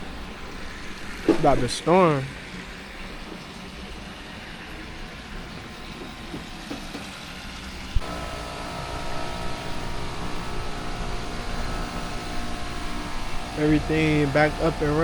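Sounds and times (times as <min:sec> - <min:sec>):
compressor and fan humming: 0:00.0 - 0:15.0.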